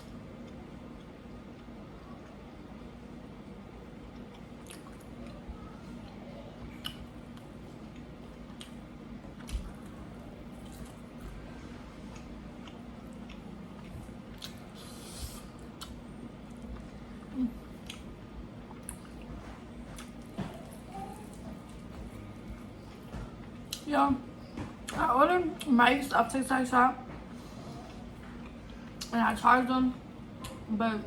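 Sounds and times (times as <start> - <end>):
chewing and wet mouth sounds: 0.0 - 26.2, 27.1 - 29.4, 30.1 - 30.7
steady low hum: 0.0 - 31.0.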